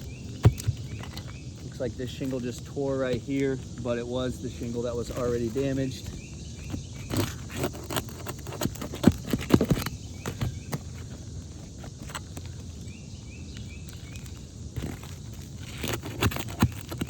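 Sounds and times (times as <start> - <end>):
roof shingles scraping and crackling: 0.0 - 17.0.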